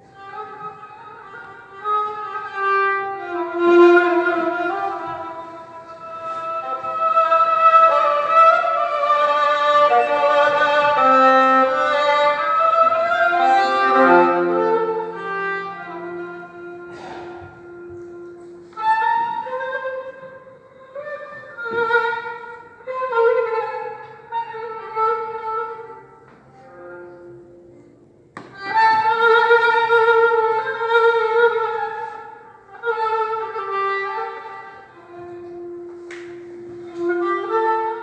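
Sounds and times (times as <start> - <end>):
bowed spiked fiddle solo: 0.0 - 27.3, 28.4 - 38.0.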